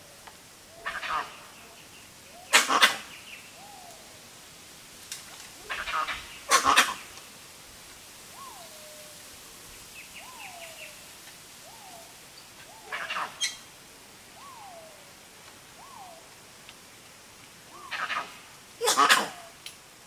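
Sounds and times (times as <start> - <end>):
bamboo leaves rustling: 2.1 - 20.0.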